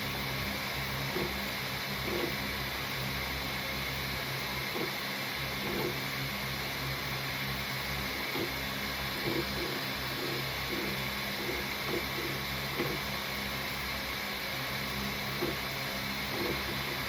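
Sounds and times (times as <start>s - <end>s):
small motor and fan whirring: 0.0s - 17.0s.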